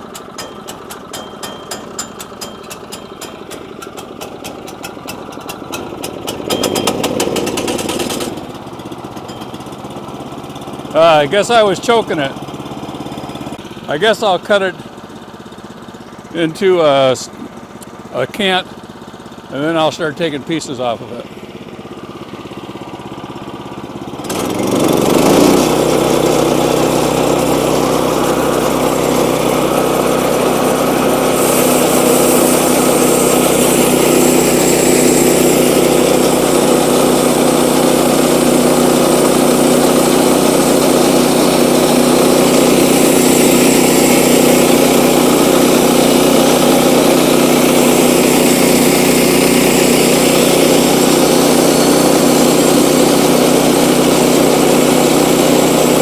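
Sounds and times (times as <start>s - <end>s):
sawmill engine idling and revving: 0.0s - 56.0s.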